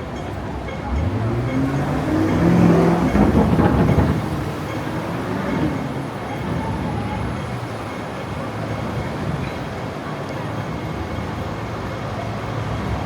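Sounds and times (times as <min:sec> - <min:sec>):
tram rumbling with wheel clatter: 0:00.0 - 0:13.0.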